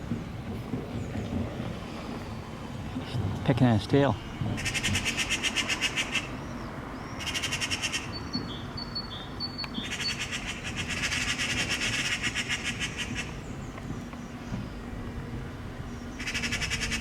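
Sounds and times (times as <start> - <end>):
magpies rattling alarm chatter: 0.0 - 14.4, 16.1 - 17.0.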